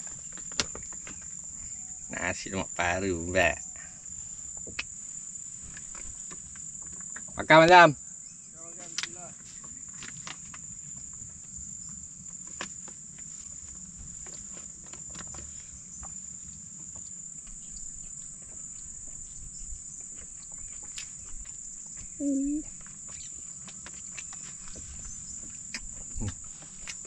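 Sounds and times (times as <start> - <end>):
insects singing drone: 0.0 - 27.0.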